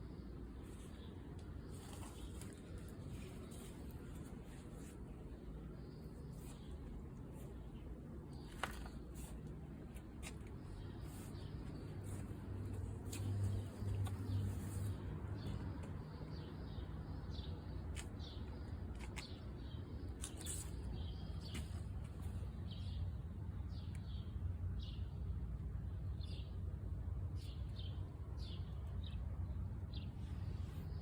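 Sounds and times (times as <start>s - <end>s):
small birds chirping: 0.0s - 25.3s, 27.3s - 31.0s.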